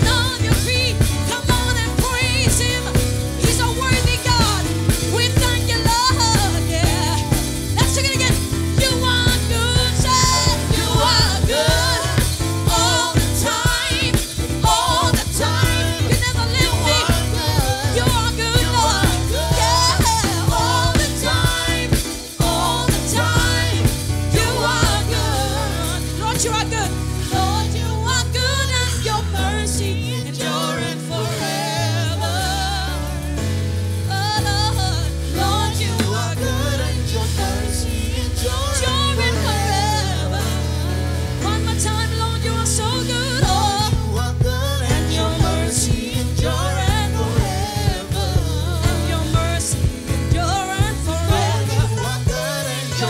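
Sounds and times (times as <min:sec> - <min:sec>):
person singing with vibrato: 0:00.0 - 0:33.4, 0:34.1 - 0:53.0
band with steady bass: 0:00.0 - 0:53.0.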